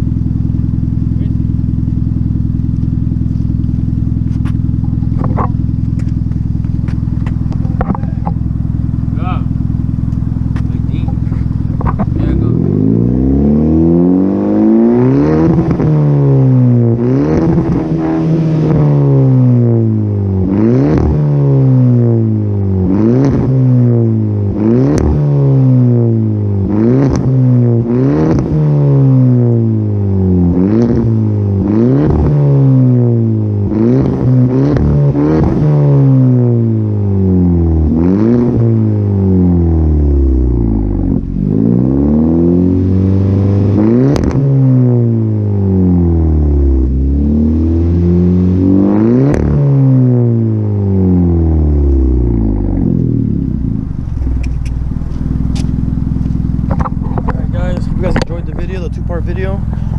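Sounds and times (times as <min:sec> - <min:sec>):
car engine revving in blips: 0:00.0 - 0:59.9.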